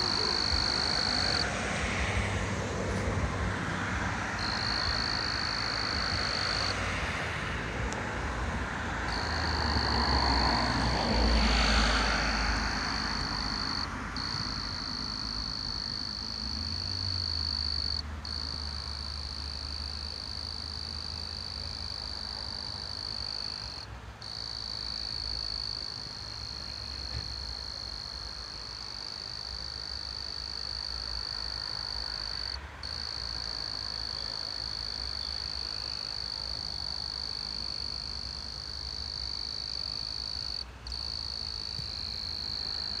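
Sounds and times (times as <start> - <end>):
frogs and insects chorus: 0.0 - 43.0.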